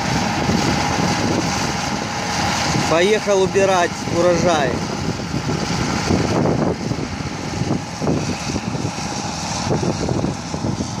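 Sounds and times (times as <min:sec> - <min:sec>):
diesel combine engine running: 0:00.0 - 0:11.0.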